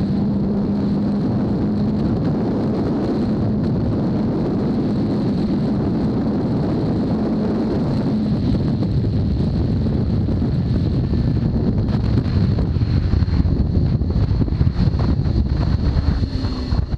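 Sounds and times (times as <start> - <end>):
motorcycle engine at road speed: 0.0 - 16.9
wind rushing over microphone: 0.0 - 16.9.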